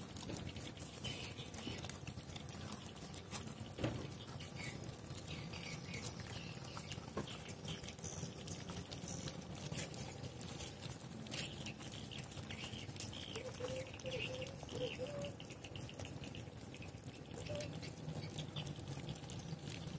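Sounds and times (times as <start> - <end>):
puppies chewing and lapping food: 0.0 - 19.9.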